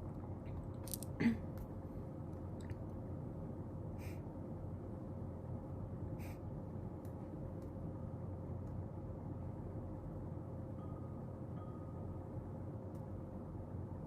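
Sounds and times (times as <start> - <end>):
low room hum with tone: 0.0 - 14.0.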